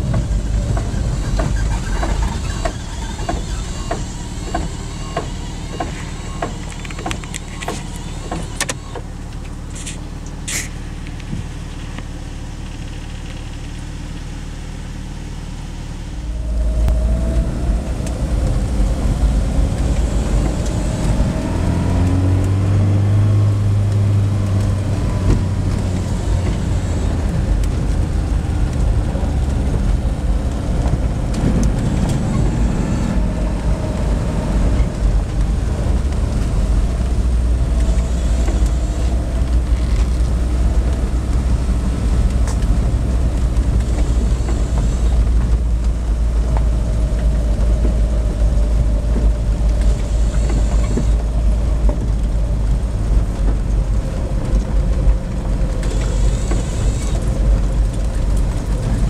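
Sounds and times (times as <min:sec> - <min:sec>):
vehicle engine and tyre rumble: 0:00.0 - 0:59.0.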